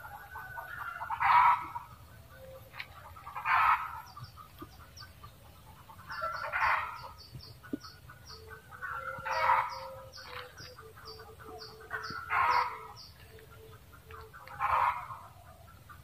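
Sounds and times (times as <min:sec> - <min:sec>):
junglefowl cackling: 0:00.0 - 0:16.0.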